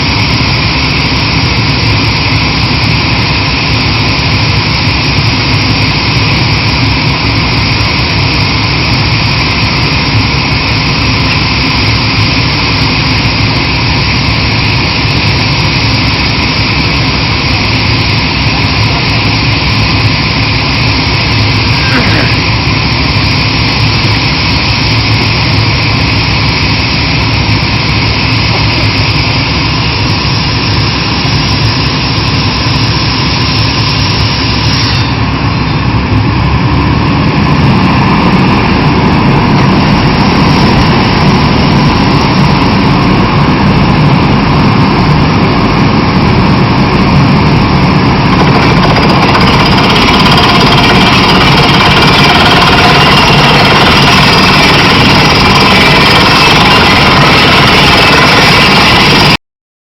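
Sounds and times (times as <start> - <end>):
drilling rig running: 0.0 - 59.4.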